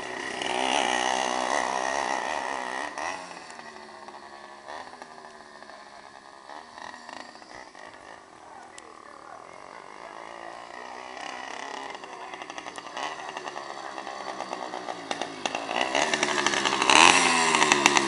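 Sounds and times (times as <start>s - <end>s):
loud unmuffled two-stroke engine passing: 0.0s - 18.0s.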